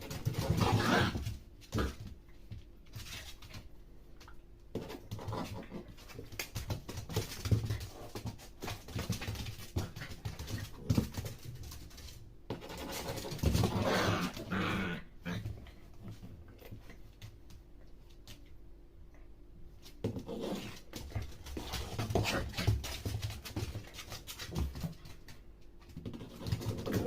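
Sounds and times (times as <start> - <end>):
dog scuffling: 0.0 - 14.6, 19.8 - 27.0.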